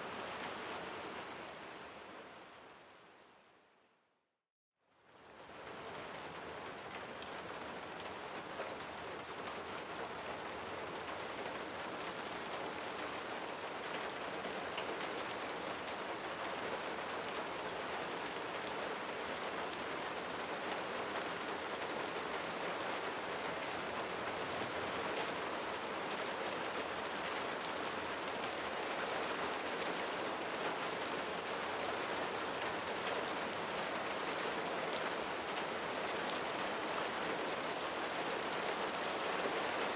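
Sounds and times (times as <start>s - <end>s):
rain pattering on leaves: 5.2s - 39.9s.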